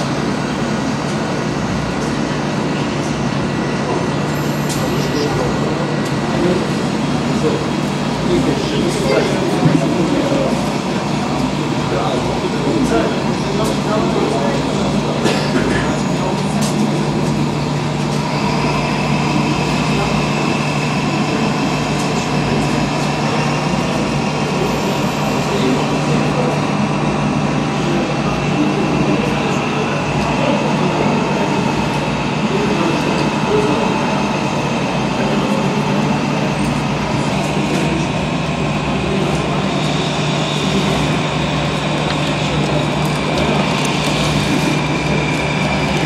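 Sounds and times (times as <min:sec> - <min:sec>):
murmur of distant voices: 0:00.0 - 0:46.0.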